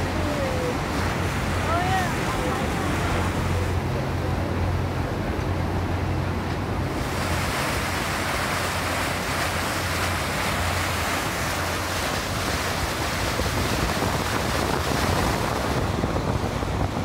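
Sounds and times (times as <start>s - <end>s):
boat hull rushing through water: 0.0s - 17.0s
low boat engine hum: 0.0s - 17.0s.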